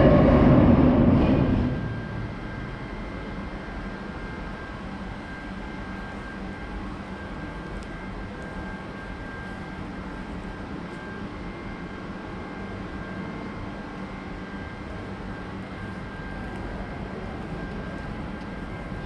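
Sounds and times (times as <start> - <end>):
faint high whine: 0.0 - 19.0
low drone of metro hum: 0.0 - 19.0.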